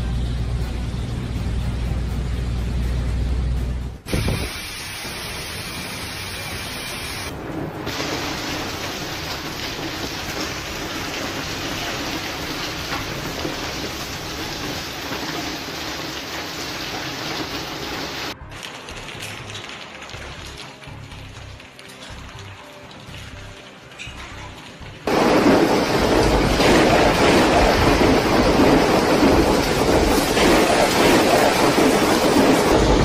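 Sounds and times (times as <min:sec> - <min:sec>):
hailstones pelting the ground: 0:04.1 - 0:33.0.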